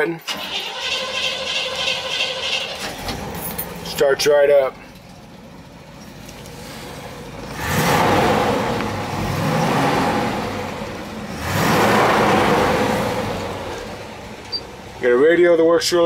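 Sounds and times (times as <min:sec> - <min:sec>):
car engine revving: 0:00.3 - 0:15.5.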